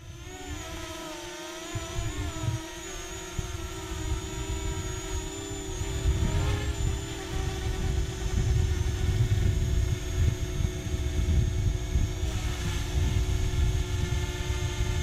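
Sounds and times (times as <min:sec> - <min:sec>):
drone propellers humming: 0:00.0 - 0:15.0
wind on microphone: 0:00.0 - 0:15.0.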